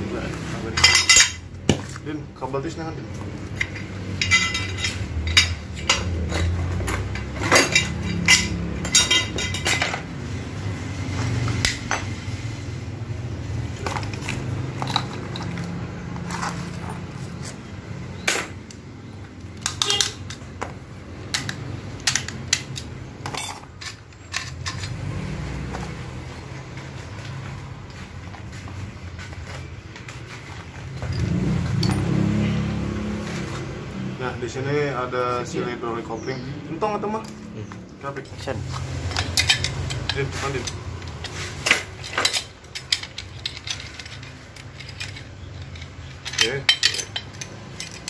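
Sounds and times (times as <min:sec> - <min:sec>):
metal tools clinking: 0:00.3 - 0:10.2, 0:13.5 - 0:33.6, 0:35.4 - 0:48.0.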